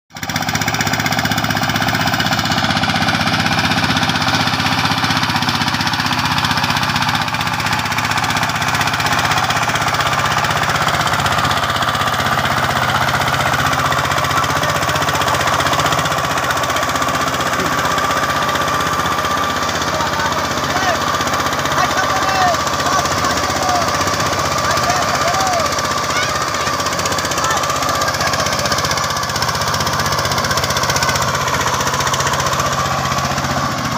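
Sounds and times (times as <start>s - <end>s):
diesel engine knocking chug: 0.1s - 33.9s.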